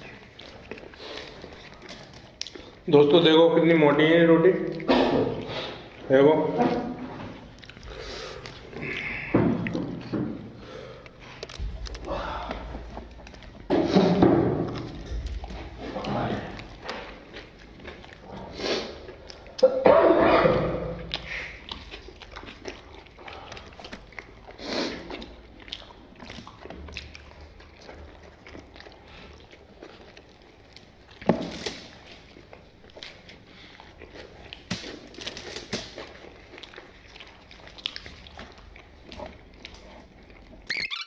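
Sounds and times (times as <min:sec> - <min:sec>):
people chewing bread: 0:00.0 - 0:41.0.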